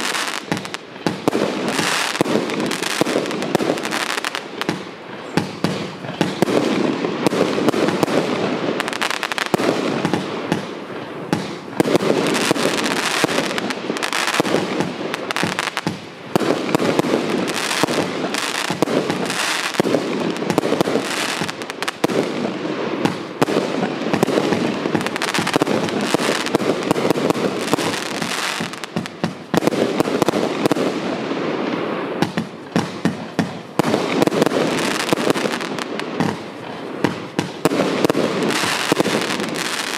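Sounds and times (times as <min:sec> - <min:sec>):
firework cake barrage: 0:00.0 - 0:39.9.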